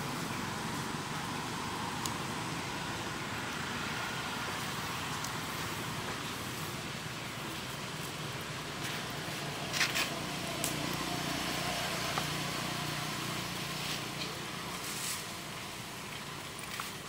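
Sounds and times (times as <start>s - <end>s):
outdoor ambience: 0.0s - 17.0s.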